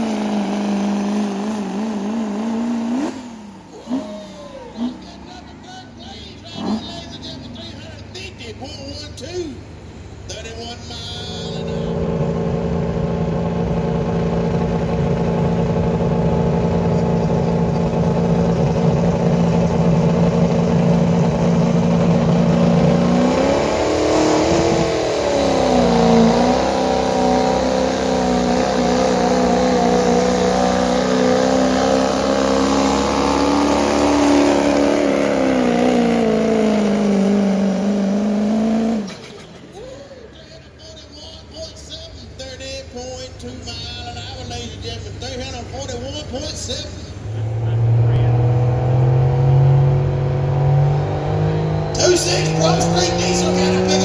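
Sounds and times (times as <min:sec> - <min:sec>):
diesel truck engine revving high: 0:00.0 - 0:10.3, 0:10.9 - 0:40.4, 0:43.6 - 0:54.0.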